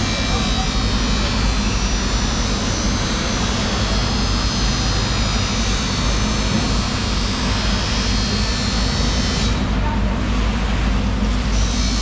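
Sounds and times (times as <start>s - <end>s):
machinery drone with hiss: 0.0s - 9.6s.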